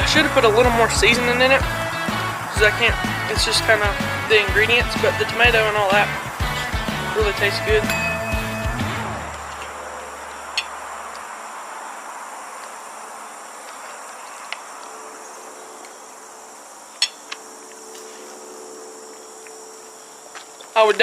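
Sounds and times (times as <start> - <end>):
insects trilling: 0.0 - 21.0
outdoor background hiss: 0.0 - 21.0.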